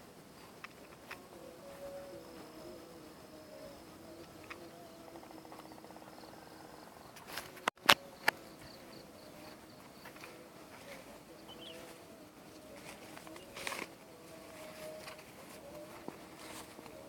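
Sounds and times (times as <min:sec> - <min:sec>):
droning call from tree: 0:00.7 - 0:17.0.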